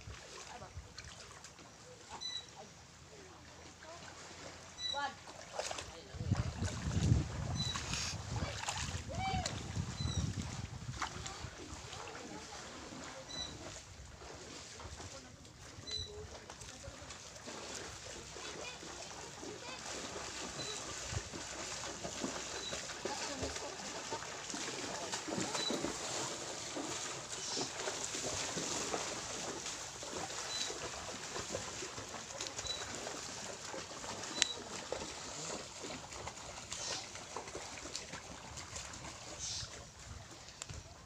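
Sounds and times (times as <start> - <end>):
seawater splashing and lapping: 0.0 - 41.0.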